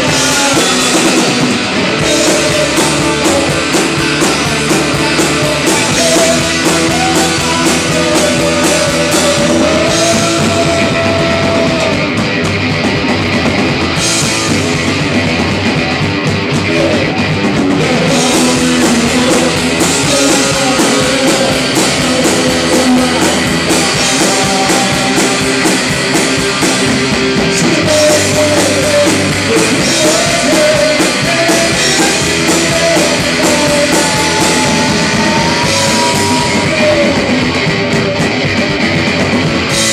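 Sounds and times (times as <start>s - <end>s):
man singing into a microphone: 0.0s - 12.2s, 16.6s - 26.8s, 27.4s - 38.5s
drum kit: 0.0s - 39.9s
electric guitar: 0.0s - 39.9s.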